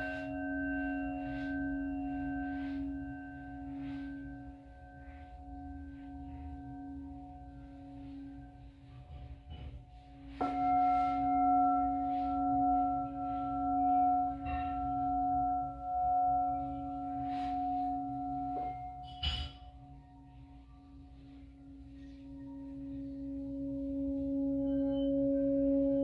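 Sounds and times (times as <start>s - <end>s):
singing bowl struck: 0.0s - 21.1s
singing bowls ringing: 0.0s - 26.0s.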